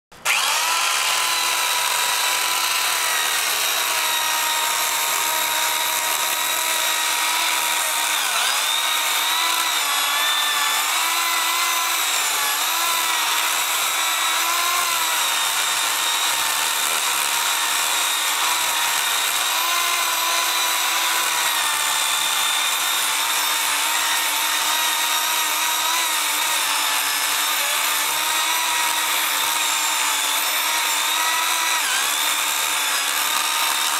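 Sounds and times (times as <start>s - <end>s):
electric chainsaw motor whine: 0.2s - 33.9s.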